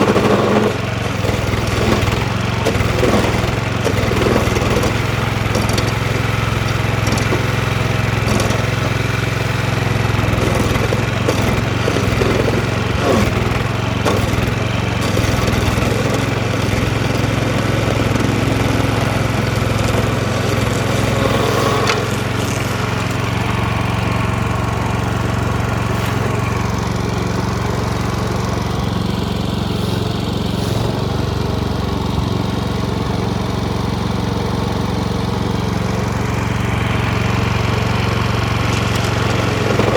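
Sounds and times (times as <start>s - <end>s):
cutter wheel chewing wood: 0.0s - 39.9s
engine humming: 0.0s - 39.9s.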